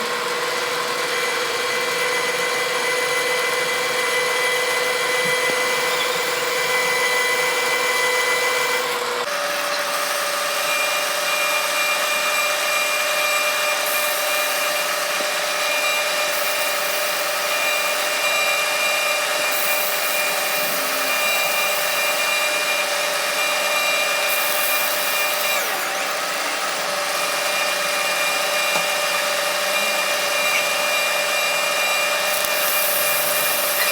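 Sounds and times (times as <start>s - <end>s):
metal lathe humming and whining: 0.0s - 33.9s.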